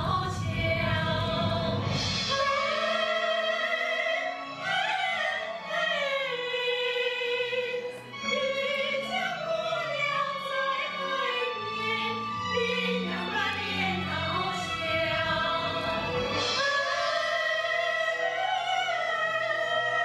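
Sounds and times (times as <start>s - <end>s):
women singing in harmony: 0.0s - 20.0s.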